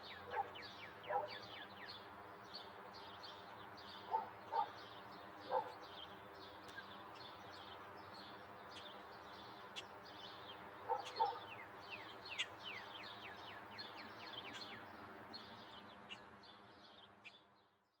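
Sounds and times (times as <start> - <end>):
songbirds chirping: 0.0 - 17.8.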